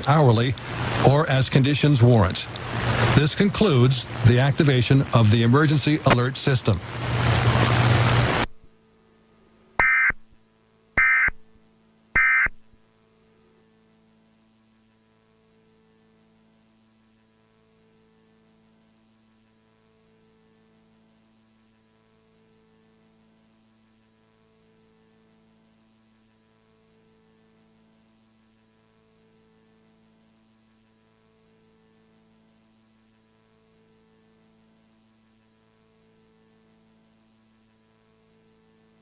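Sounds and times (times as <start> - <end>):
faint electrical hum: 0.0 - 39.0.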